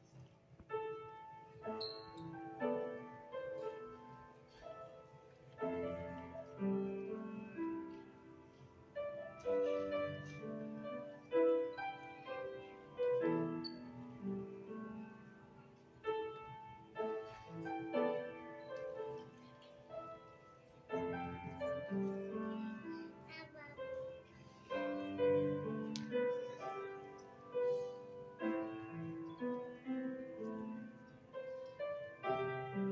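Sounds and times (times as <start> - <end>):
grand piano playing slow piece: 0.0 - 32.9.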